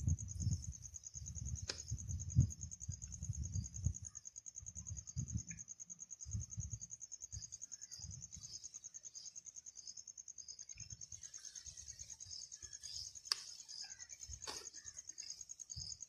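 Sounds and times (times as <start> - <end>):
insect chirping trill: 0.0 - 16.0.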